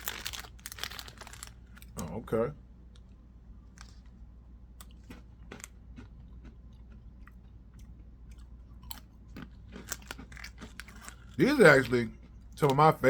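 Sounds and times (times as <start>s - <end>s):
person chewing crackers: 0.0s - 2.1s, 2.9s - 13.0s.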